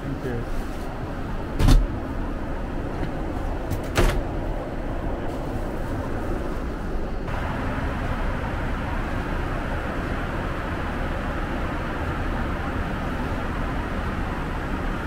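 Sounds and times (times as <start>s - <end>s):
airplane cabin noise: 0.0s - 15.0s.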